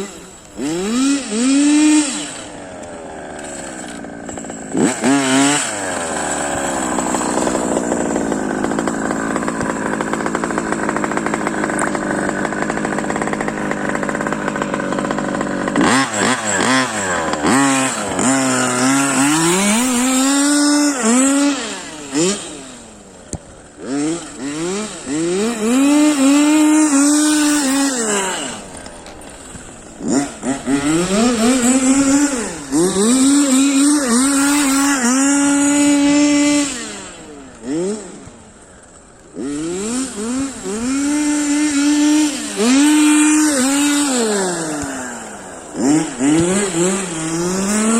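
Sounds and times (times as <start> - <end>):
small two-stroke engine revving: 0.0 - 47.9.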